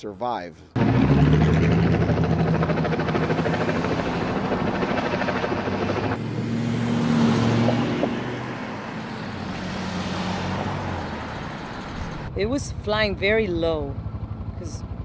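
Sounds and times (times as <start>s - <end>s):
helicopter rotor beat: 0.8s - 15.0s.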